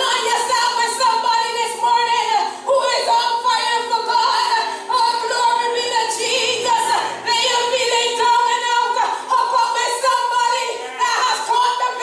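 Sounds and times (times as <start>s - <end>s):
women singing with vibrato: 0.0s - 12.0s.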